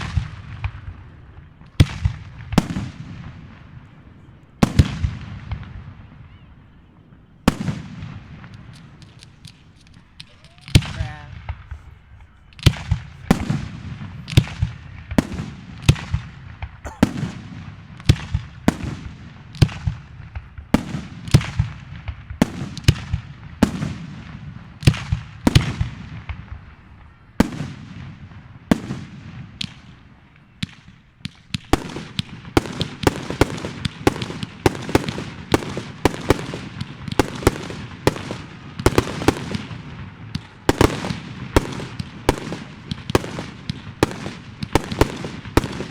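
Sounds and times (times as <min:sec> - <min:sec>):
fireworks bursting with sharp bangs: 0:00.0 - 0:45.9.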